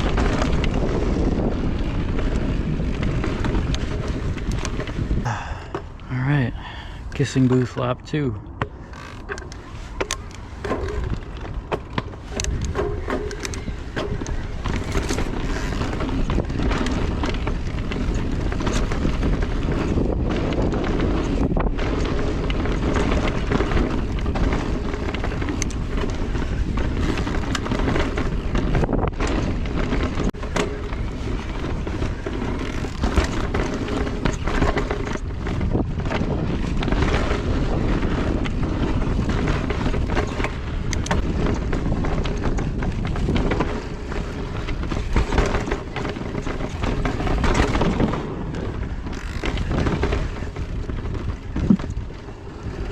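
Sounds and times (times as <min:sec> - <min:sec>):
bike rattling clicks and knocks: 0:00.0 - 0:52.9
wind on microphone: 0:00.0 - 0:52.9
tyre rumble on dirt: 0:09.6 - 0:52.9.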